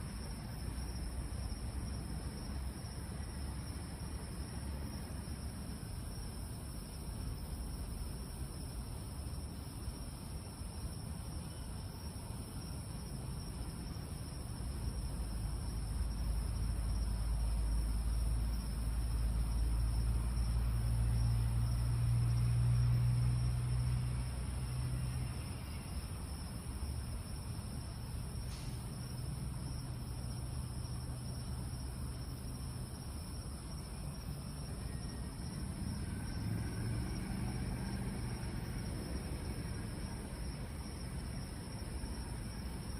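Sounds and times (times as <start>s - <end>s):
insects chirping: 0.0s - 42.9s
low rumble and hiss: 0.0s - 42.9s.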